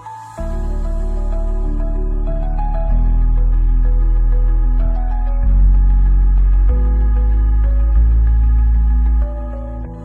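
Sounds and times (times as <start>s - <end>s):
calm new-age music: 0.0s - 10.0s.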